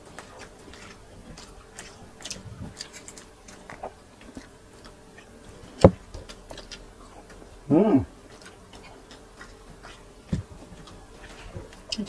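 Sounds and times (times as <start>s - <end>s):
mouth clicks and chewing: 0.0s - 12.0s.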